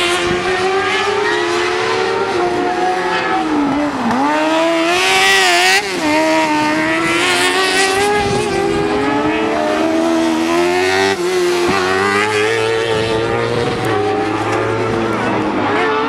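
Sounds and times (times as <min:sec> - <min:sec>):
buggy engines revving hard: 0:00.0 - 0:16.0.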